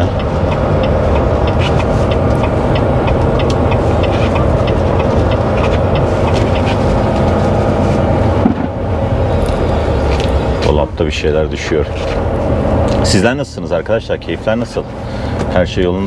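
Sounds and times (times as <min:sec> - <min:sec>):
diesel engine rumbling: 0:00.0 - 0:16.0
rattles and clicks in cab: 0:00.0 - 0:16.0.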